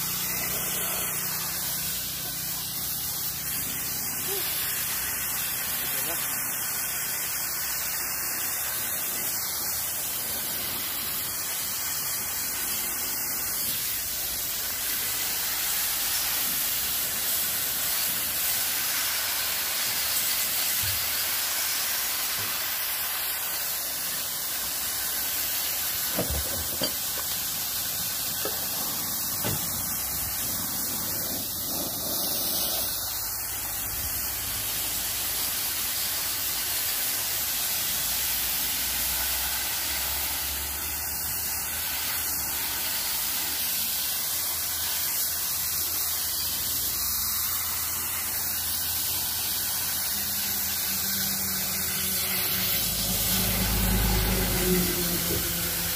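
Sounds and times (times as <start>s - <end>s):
hose water jet hissing: 0.0s - 55.9s.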